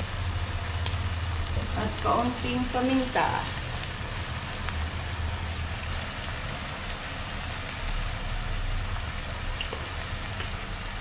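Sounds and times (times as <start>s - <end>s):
chicken and onions sizzling in oil: 0.0s - 11.0s.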